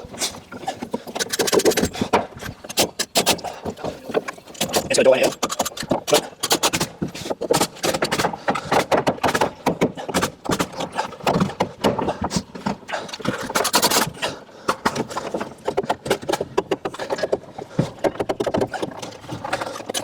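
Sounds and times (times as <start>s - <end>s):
sharp knocks and clatter of timber: 0.0s - 20.0s.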